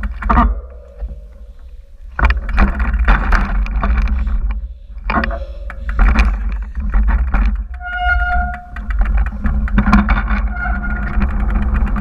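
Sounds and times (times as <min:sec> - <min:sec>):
bike frame rattling: 0:00.0 - 0:12.0
bike tyres crunching on rock: 0:00.0 - 0:12.0
wind rumble on microphone: 0:00.0 - 0:12.0.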